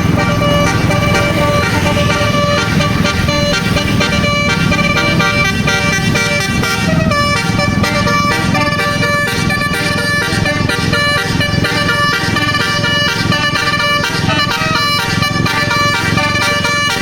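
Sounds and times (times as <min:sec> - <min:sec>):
bus horn playing a melody: 0:00.0 - 0:17.0
steady low rumble: 0:00.0 - 0:17.0.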